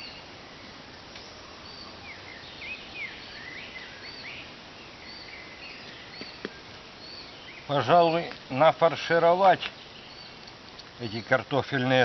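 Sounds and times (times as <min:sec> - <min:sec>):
background hiss: 0:00.0 - 0:12.0
songbirds chirping: 0:00.0 - 0:12.0.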